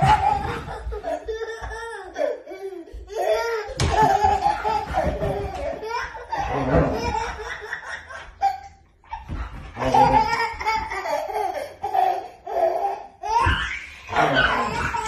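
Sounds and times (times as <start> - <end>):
baby laughing: 0.0 - 15.0.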